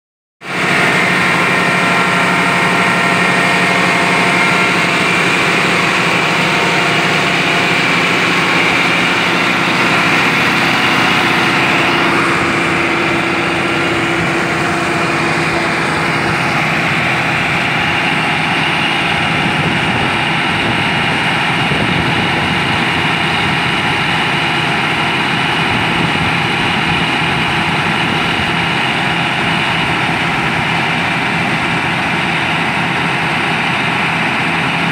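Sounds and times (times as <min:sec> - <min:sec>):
tractor diesel engine idling: 0:00.4 - 0:34.9.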